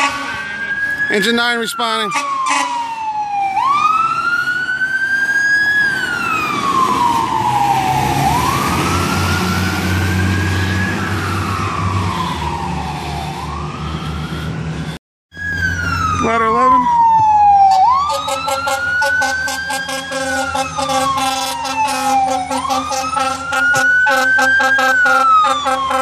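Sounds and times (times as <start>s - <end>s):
fire engine siren wailing: 0.0s - 26.0s
truck engine rumble: 2.0s - 26.0s.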